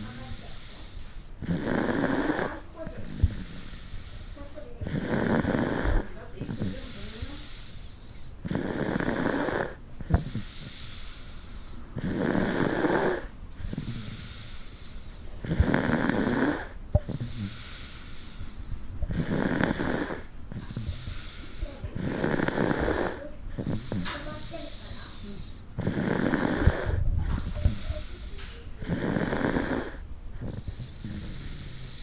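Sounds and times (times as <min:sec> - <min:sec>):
child snoring: 0:00.0 - 0:32.0.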